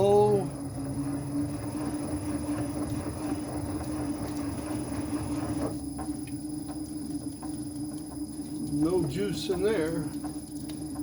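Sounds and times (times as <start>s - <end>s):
machine spindle humming: 0.0s - 11.0s.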